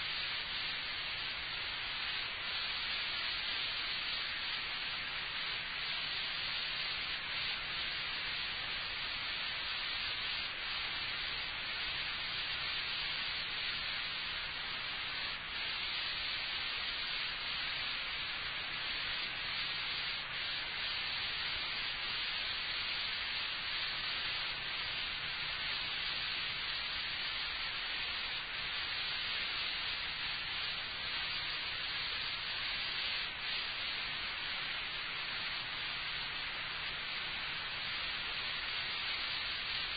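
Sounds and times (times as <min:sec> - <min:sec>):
recording hiss: 0:00.0 - 0:39.9.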